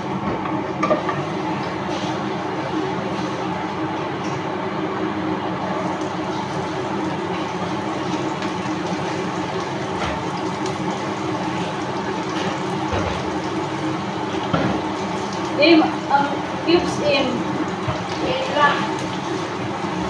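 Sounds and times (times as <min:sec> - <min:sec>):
extractor fan hiss and hum: 0:00.0 - 0:20.0.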